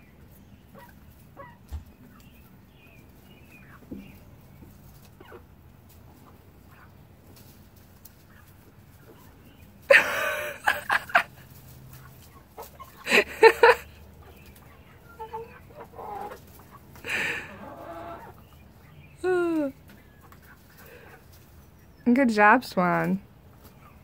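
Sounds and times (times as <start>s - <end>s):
chickens clucking softly: 0.0s - 22.0s, 23.4s - 24.0s
chickens squawking: 0.0s - 22.0s, 23.4s - 24.0s.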